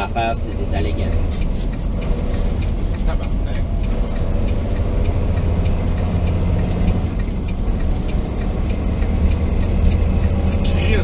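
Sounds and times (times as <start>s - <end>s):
road noise: 0.0s - 11.0s
truck diesel engine drone: 0.0s - 11.0s.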